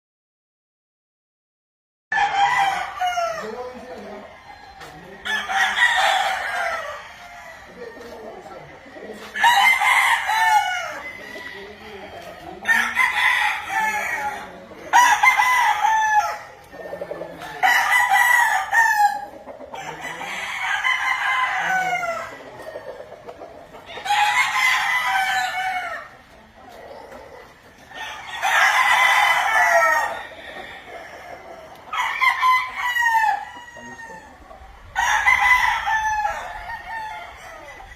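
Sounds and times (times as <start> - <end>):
roosters crowing: 2.1 - 37.9.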